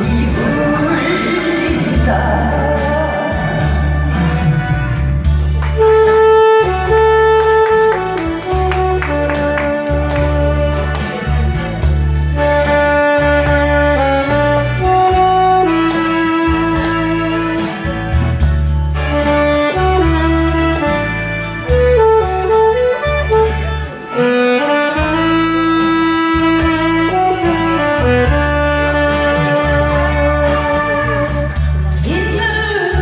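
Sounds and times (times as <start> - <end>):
instrumental pop music: 0.0 - 33.0.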